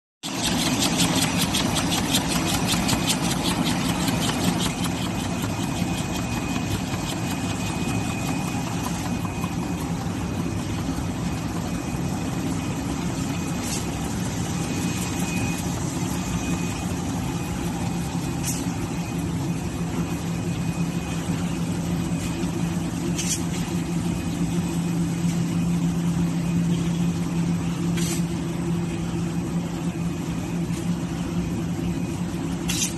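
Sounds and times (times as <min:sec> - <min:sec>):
steady mechanical hum: 0:00.2 - 0:32.9.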